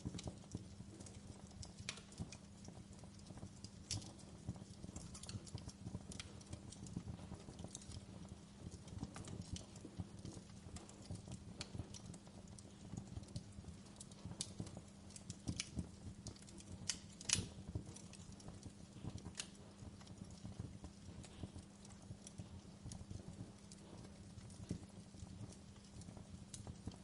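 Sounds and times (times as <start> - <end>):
low steady hum: 0.0 - 27.0
wood fire crackling: 0.0 - 27.0.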